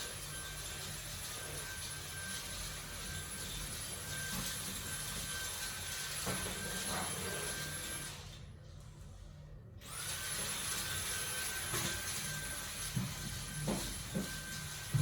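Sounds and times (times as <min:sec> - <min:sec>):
vacuum cleaner whining: 0:00.0 - 0:08.3, 0:09.8 - 0:15.0.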